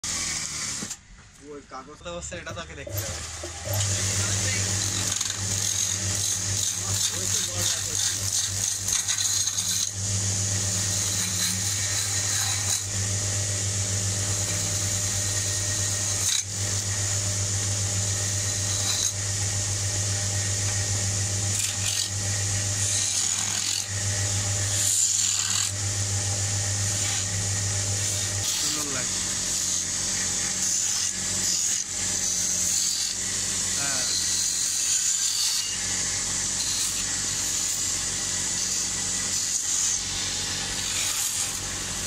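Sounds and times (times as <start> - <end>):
wood lathe humming: 0.0 - 1.0, 2.4 - 42.0
turning tool scraping wood: 0.0 - 1.1, 2.3 - 42.0.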